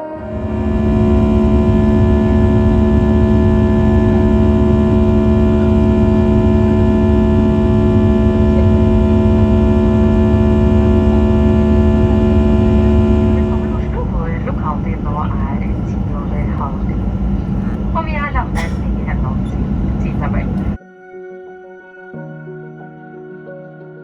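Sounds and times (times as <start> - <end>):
jet engine rumble: 0.0 - 20.8
whining engine tones: 0.0 - 20.8.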